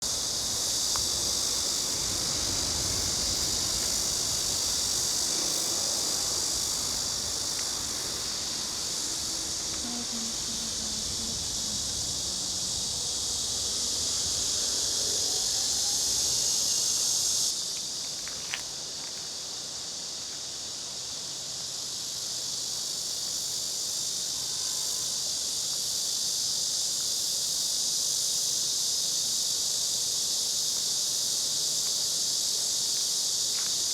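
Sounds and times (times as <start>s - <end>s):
insects chorus: 0.0s - 33.9s.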